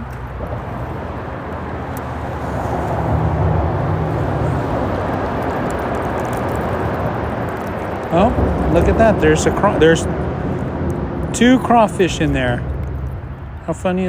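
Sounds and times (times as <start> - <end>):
freeway traffic rushing: 0.0 - 14.0.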